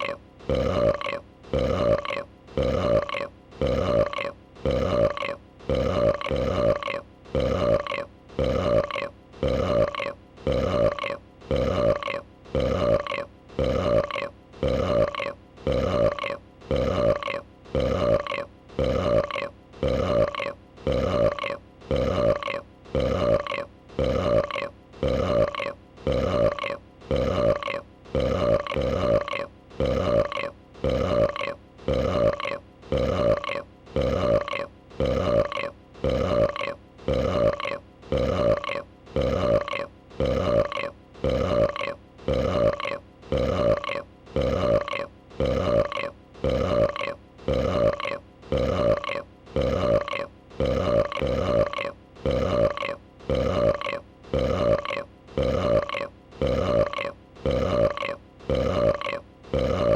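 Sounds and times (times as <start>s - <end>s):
throaty creature burps: 0.0s - 59.9s.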